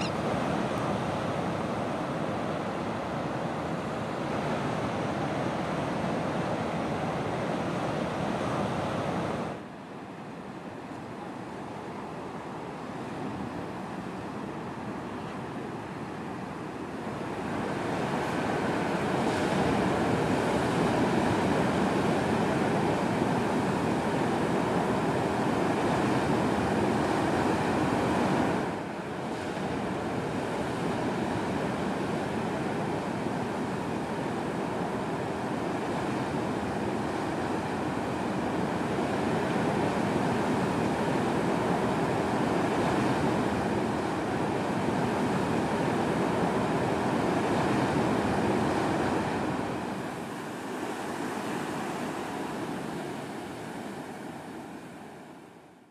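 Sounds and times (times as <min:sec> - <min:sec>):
ocean waves breaking: 0:00.0 - 0:09.6, 0:12.0 - 0:55.8.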